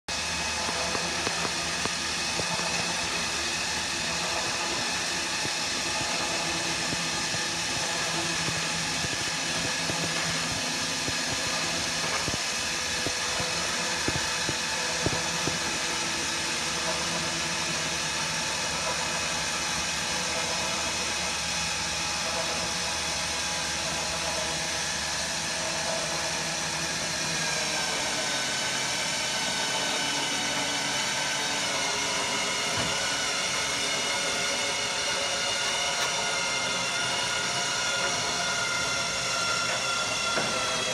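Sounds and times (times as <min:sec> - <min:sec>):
motor and pump whine: 0:00.1 - 0:40.9.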